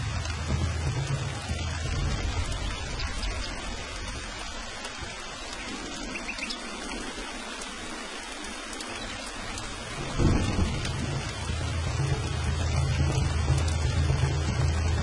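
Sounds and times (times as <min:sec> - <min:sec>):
rain falling: 0:00.0 - 0:15.0
thunder rumble: 0:00.0 - 0:15.0.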